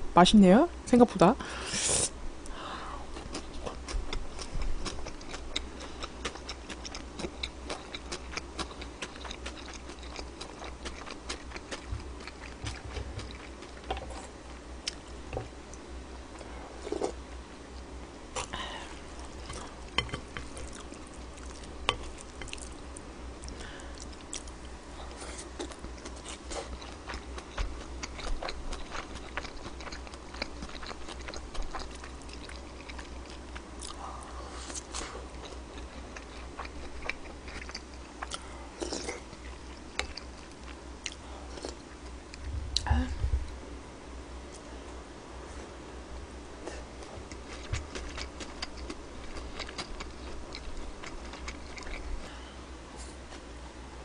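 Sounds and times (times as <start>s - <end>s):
close chewing and eating: 2.4s - 42.9s, 46.5s - 53.6s.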